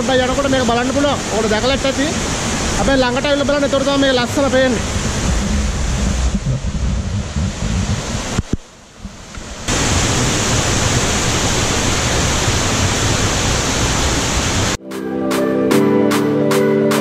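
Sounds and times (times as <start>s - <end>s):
small waterfall rushing: 0.0s - 14.8s.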